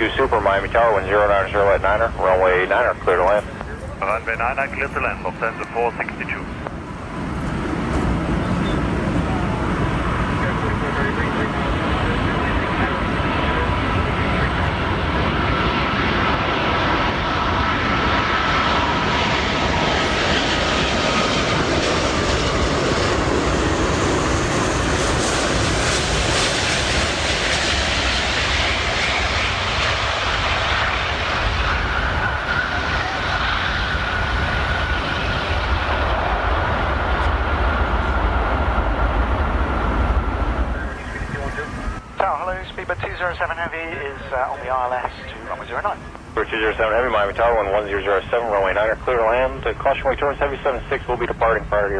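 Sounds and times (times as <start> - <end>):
jet engines rumbling and whining: 0.0 - 51.9.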